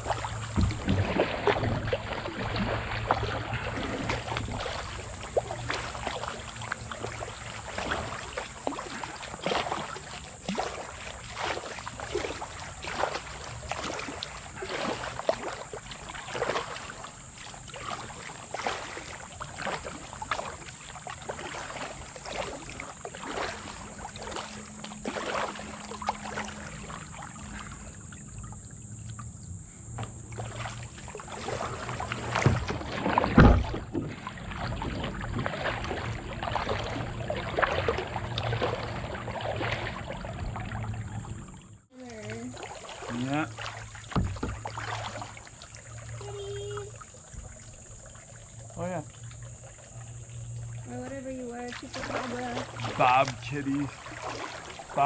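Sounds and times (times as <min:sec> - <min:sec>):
kayak paddle splashing: 0:00.0 - 0:55.0.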